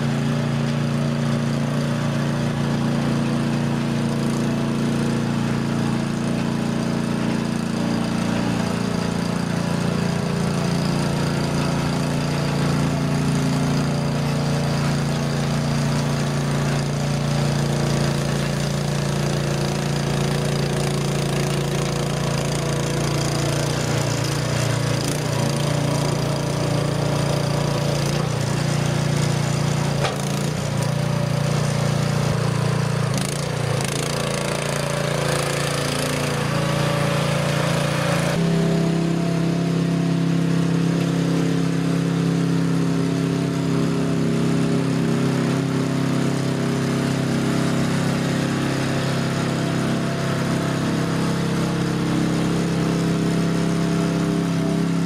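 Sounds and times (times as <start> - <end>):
blade pushing sand: 0.0 - 55.0
mini dumper engine running: 0.0 - 55.0.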